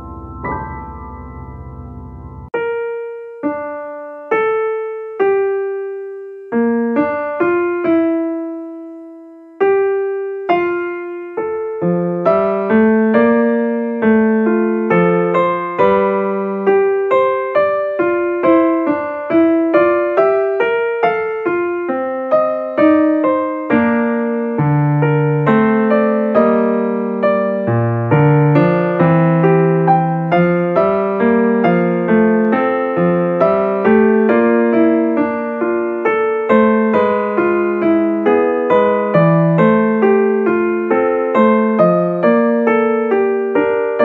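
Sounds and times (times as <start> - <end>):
slow solo piano melody: 0.0 - 44.0.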